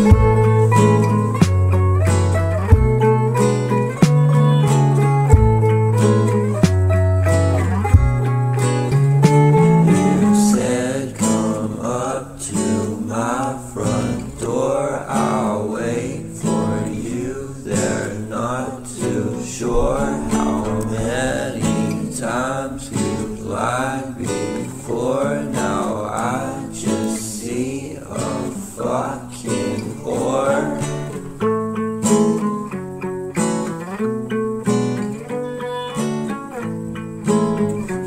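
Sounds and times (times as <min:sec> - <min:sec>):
guitar-led song: 0:00.0 - 0:38.0.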